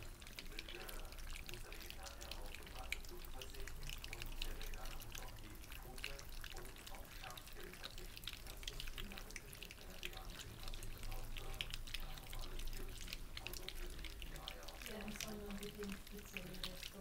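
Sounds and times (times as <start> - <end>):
puppies licking and lapping food: 0.0 - 17.0.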